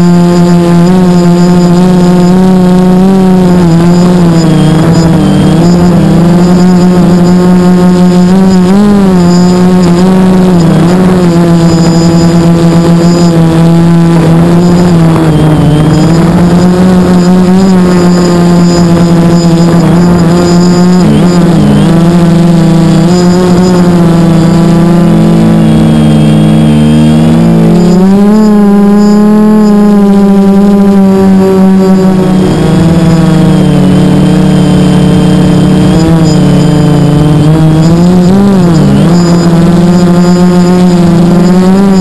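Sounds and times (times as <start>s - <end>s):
quadcopter motors humming: 0.0s - 42.0s.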